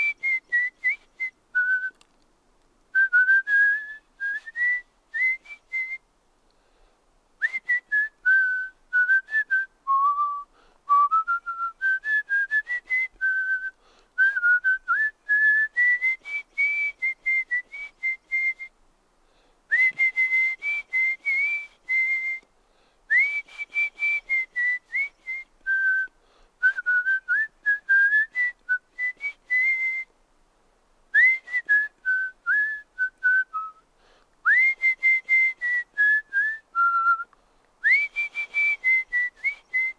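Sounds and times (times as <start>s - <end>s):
person whistling: 0.0s - 2.0s, 3.0s - 6.0s, 7.4s - 18.7s, 19.7s - 22.5s, 23.1s - 30.1s, 31.2s - 33.8s, 34.4s - 39.9s.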